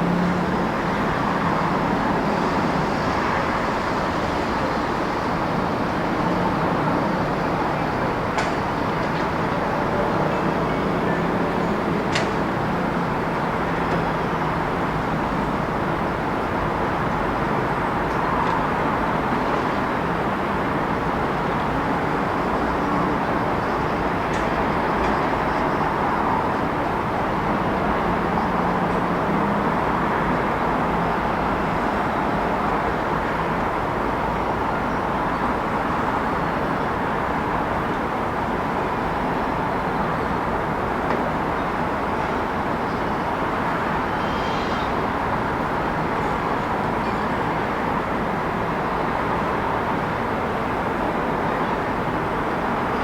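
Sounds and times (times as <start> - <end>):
rumble of passing vehicles: 0.0 - 53.0.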